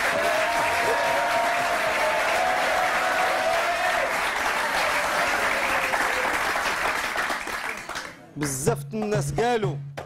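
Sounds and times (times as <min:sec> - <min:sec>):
audience clapping: 0:00.0 - 0:09.4.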